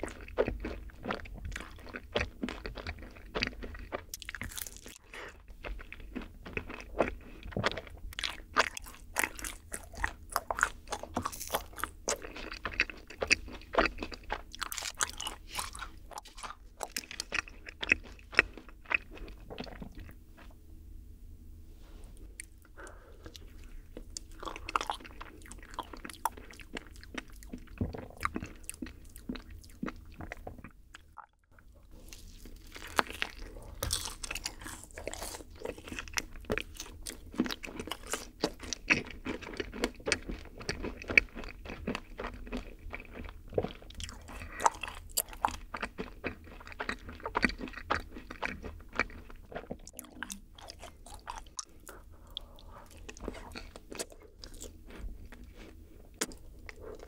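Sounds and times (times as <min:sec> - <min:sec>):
crunchy chewing: 0:00.0 - 0:20.6, 0:22.2 - 0:57.0.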